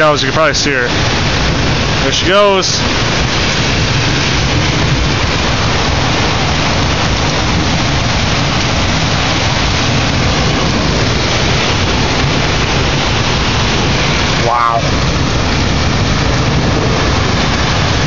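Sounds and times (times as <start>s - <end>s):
heavy rain: 0.0s - 18.0s
wind buffeting the microphone: 0.0s - 18.0s.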